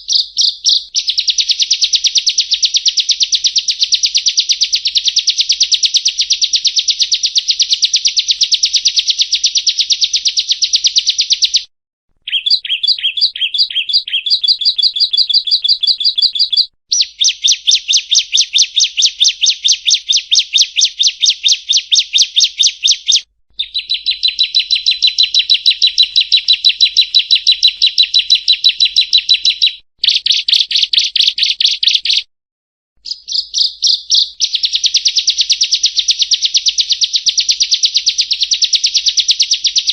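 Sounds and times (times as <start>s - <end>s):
bird singing fast trills: 0.0s - 32.3s, 33.0s - 39.9s.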